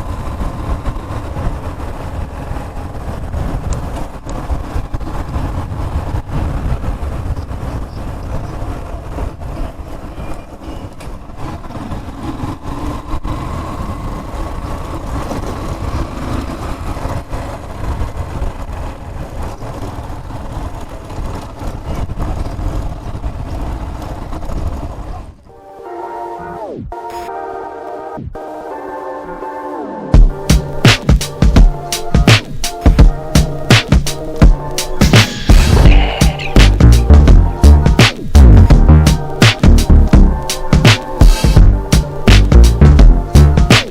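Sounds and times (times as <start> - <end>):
motor vehicle rumble: 0.0 - 25.6, 30.2 - 43.9.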